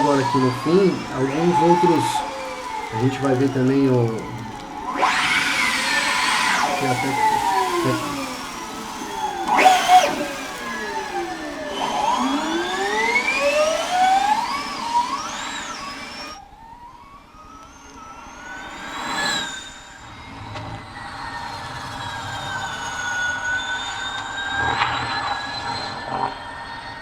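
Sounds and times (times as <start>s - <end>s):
electric race car motor whine: 0.0s - 27.0s.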